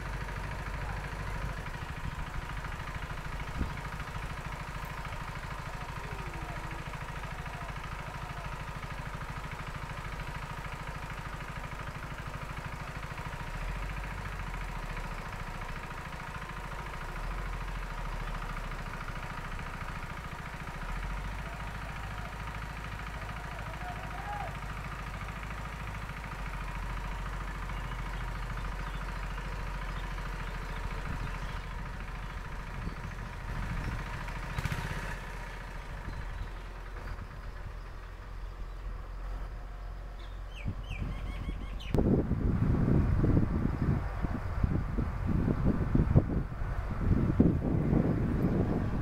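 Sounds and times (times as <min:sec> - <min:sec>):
small engine idling: 0:00.0 - 0:49.0.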